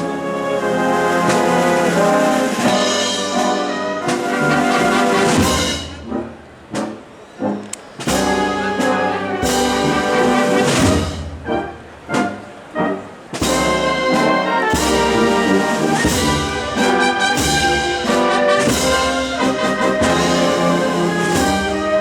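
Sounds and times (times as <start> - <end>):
wind band playing a march: 0.0 - 22.0.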